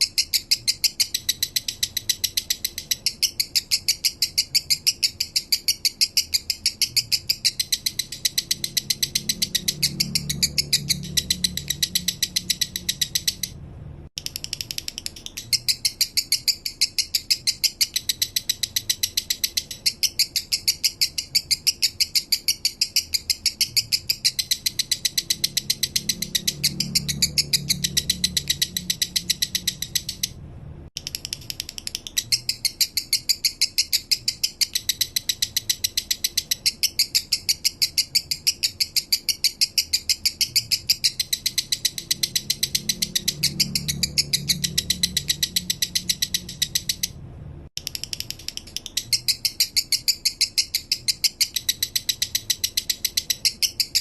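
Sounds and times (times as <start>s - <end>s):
lovebird rattling trill: 0.0s - 13.6s, 14.2s - 30.4s, 31.0s - 47.2s, 47.8s - 54.0s.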